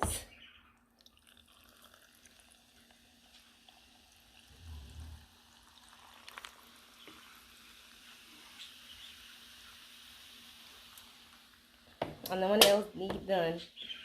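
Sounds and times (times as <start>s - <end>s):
sparkling water fizzing: 1.0s - 14.0s.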